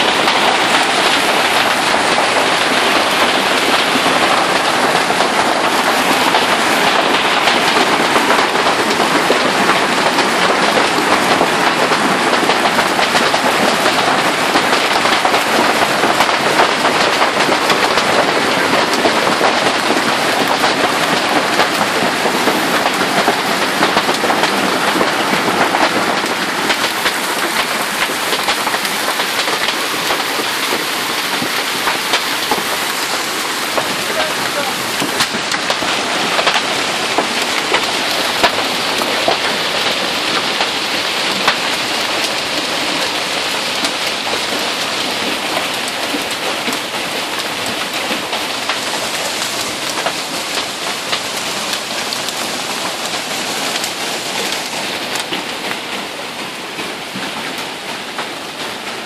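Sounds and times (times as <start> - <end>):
hail and rain hitting the ground: 0.0 - 59.0.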